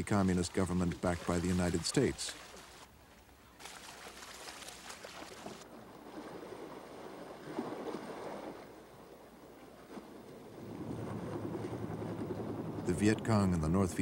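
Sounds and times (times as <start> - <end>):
water splashing and sloshing: 0.0 - 13.4.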